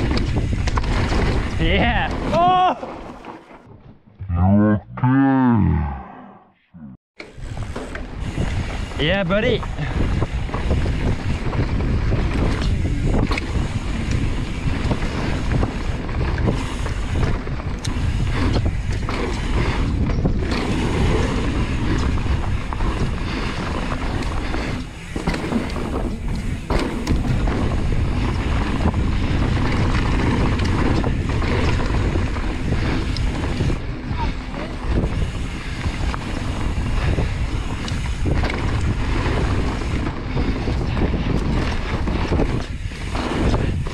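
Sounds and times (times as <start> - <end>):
bike knocking and rattling: 0.0 - 4.2, 7.2 - 43.9
wind rushing over microphone: 7.4 - 43.9.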